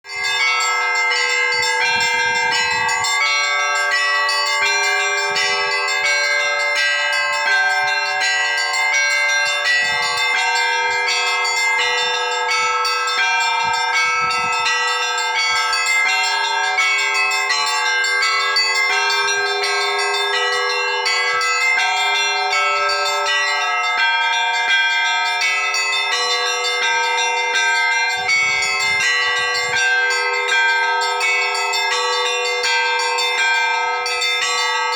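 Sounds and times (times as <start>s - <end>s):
church bells pealing: 0.0s - 34.9s.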